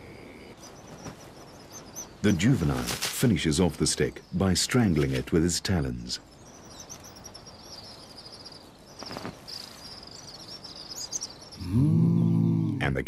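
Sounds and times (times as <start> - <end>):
insects chirping: 0.0 - 12.8.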